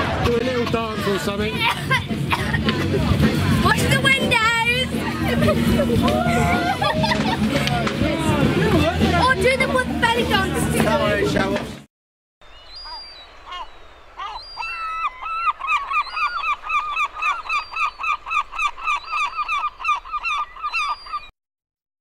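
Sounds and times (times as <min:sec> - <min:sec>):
gulls calling: 0:00.0 - 0:11.6, 0:12.4 - 0:21.3.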